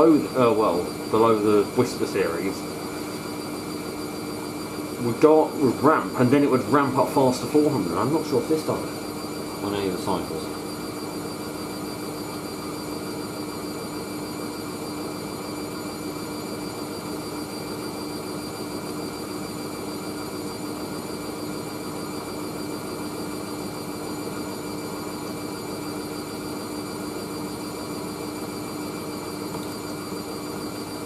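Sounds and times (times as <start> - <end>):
washing machine spinning: 0.0 - 31.0.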